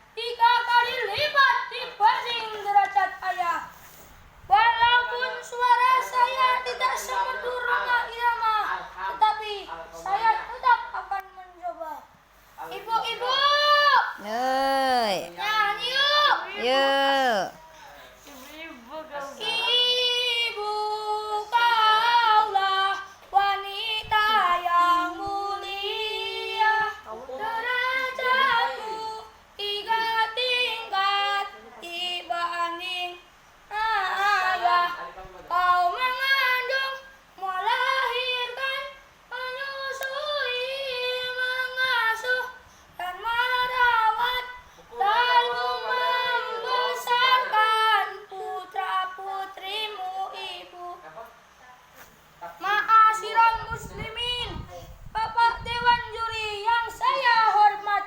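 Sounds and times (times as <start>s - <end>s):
child singing unaccompanied: 0.2s - 3.7s, 4.5s - 12.0s, 12.7s - 17.6s, 18.4s - 51.0s, 52.6s - 54.6s, 55.2s - 58.0s.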